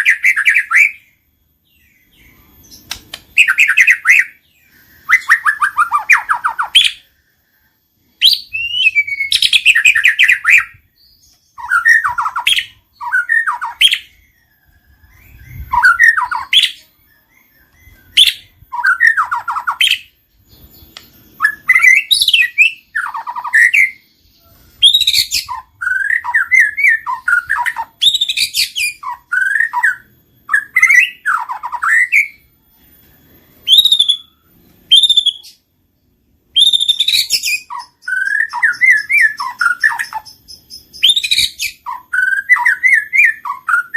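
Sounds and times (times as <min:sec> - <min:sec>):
bird singing whistles and trills: 0:00.0 - 0:43.9.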